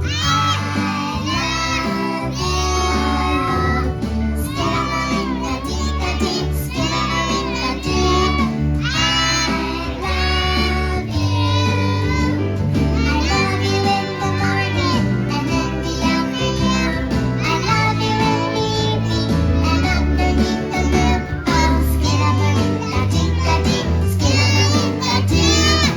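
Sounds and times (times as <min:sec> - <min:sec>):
music with steady bass line: 0:00.0 - 0:25.9
young children singing: 0:00.0 - 0:25.9.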